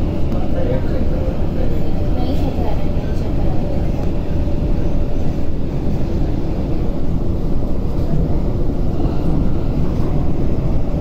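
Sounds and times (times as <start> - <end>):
train rumbling at speed: 0.0 - 11.0.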